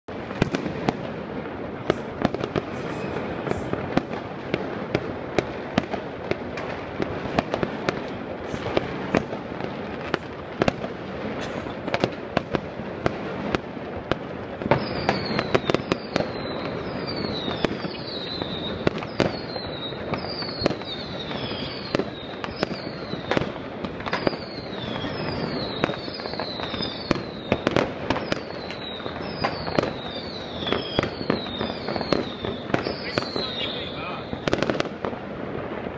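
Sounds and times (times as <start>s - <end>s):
fireworks crackling and banging: 0.1s - 35.9s.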